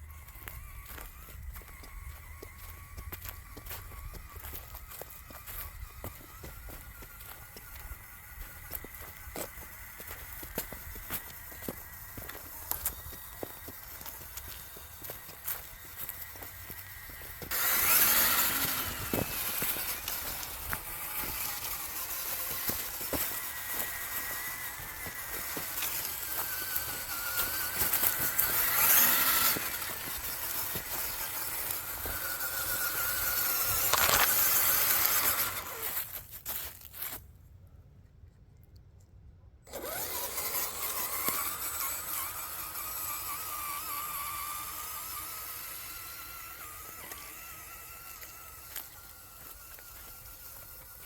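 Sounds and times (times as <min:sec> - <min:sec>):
electric motor and gearbox whining: 0:00.0 - 0:37.2, 0:39.6 - 0:51.0
tyres rolling on rough ground: 0:00.0 - 0:37.2, 0:39.7 - 0:51.0.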